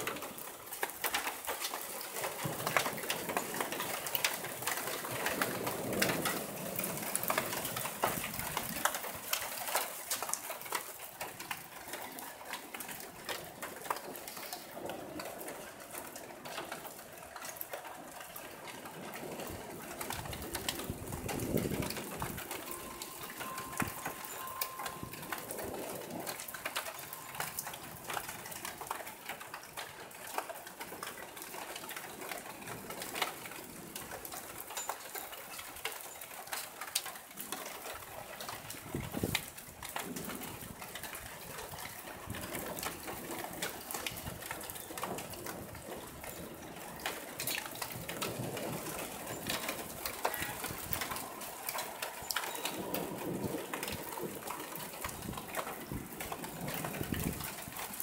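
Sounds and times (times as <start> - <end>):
hail and rain falling: 0.0 - 58.0.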